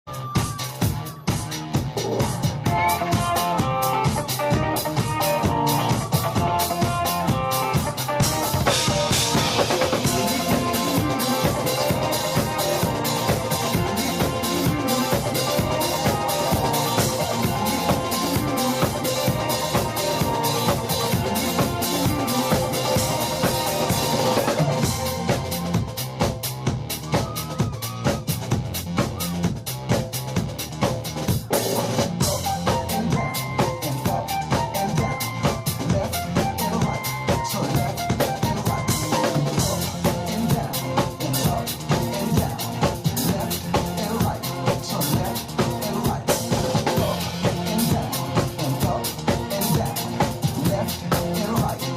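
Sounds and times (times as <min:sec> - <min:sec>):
band music: 0:00.0 - 0:51.9
drum kit beat: 0:00.0 - 0:51.9
pitched instrumental parts: 0:00.1 - 0:29.4, 0:31.5 - 0:51.9.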